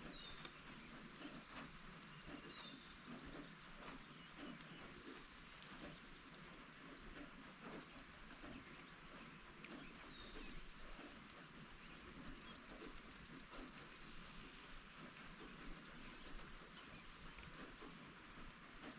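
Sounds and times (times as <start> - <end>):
light rain falling: 0.0 - 18.9.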